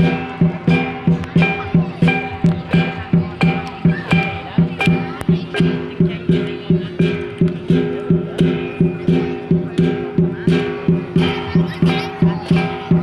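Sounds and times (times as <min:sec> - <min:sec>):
big drum beating: 0:00.0 - 0:13.0
cymbals crashing: 0:00.0 - 0:13.0.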